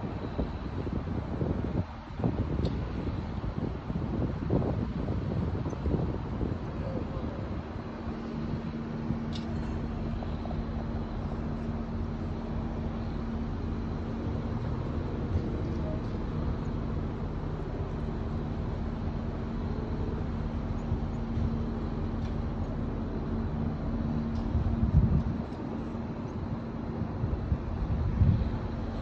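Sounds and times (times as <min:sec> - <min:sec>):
outdoor noise: 0:00.0 - 0:29.0
steady low motor drone: 0:00.0 - 0:29.0.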